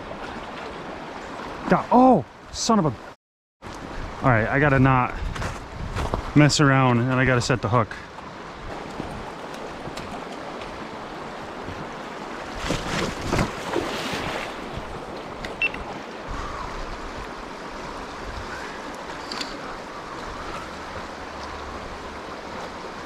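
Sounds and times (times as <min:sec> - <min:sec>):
stream rushing: 0:00.0 - 0:23.0.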